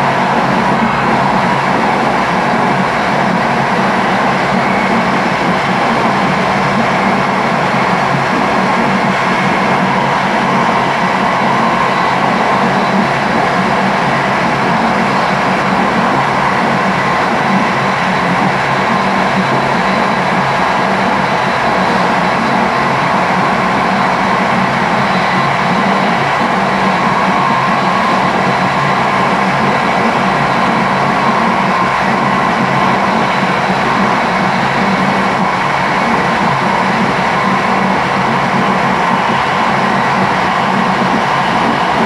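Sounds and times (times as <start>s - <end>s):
train rumbling at speed: 0.0s - 42.0s.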